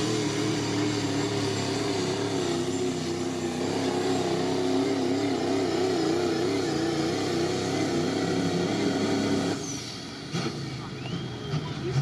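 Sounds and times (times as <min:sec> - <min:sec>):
diesel truck engine at full throttle: 0:00.0 - 0:12.0.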